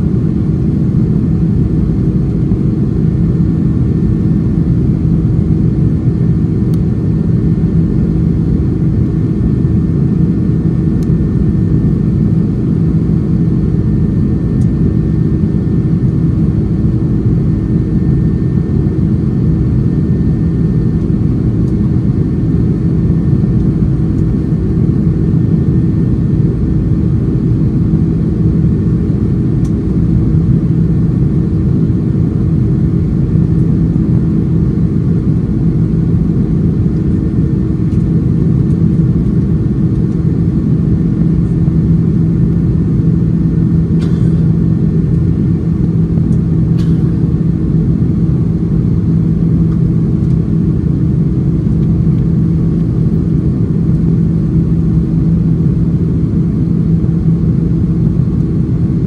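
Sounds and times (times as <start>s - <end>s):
jet engines rumbling: 0.0s - 59.0s
steady low hum: 0.0s - 59.0s.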